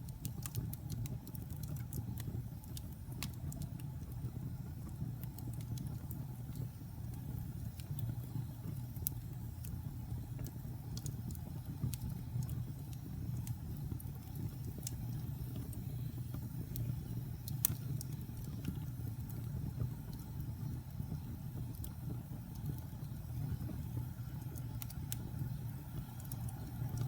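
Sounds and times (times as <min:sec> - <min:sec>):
wood fire burning: 0:00.0 - 0:27.0.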